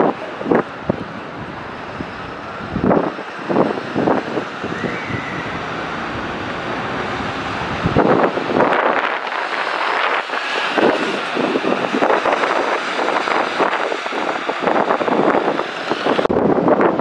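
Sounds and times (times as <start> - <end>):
bus engine driving past: 0.0 - 16.4
traffic noise: 0.0 - 17.0
wind buffeting microphone: 0.0 - 17.0.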